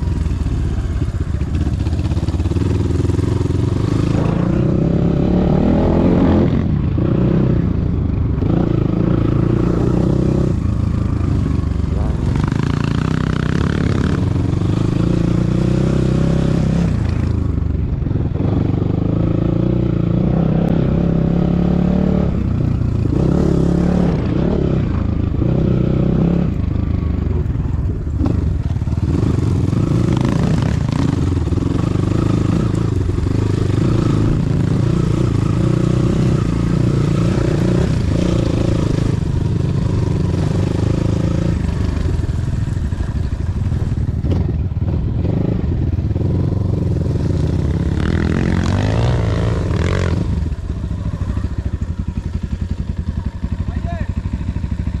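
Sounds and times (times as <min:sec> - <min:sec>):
vehicle engine revving: 0:00.8 - 0:17.6, 0:18.3 - 0:55.0.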